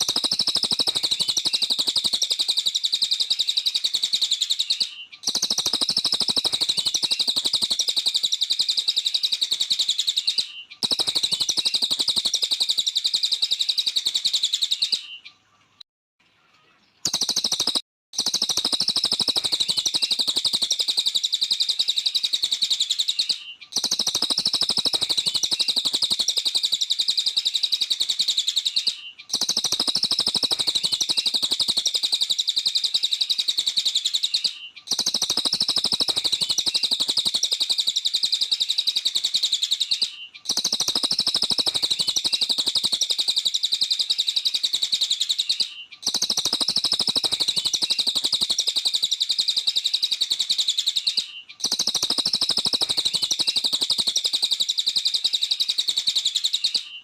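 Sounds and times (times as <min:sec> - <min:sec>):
bird chirping and twittering: 0:00.0 - 0:15.8, 0:16.4 - 0:57.0.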